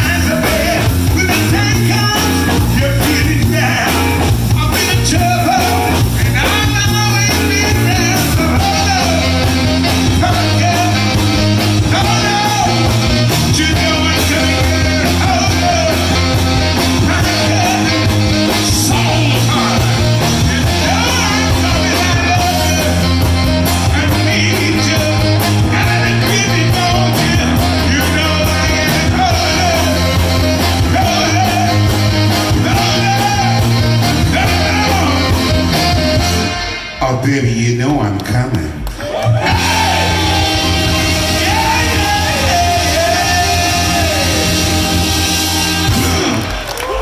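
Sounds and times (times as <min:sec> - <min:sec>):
drums steady beat: 0:00.0 - 0:37.0, 0:39.4 - 0:47.0
saxophone: 0:00.0 - 0:37.0, 0:39.1 - 0:47.0
man singing: 0:00.0 - 0:38.8, 0:39.4 - 0:46.5
bass and electric guitar: 0:00.0 - 0:47.0.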